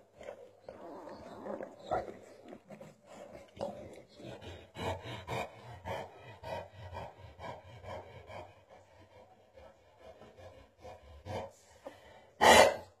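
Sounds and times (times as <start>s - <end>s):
dog panting: 1.9s - 12.8s.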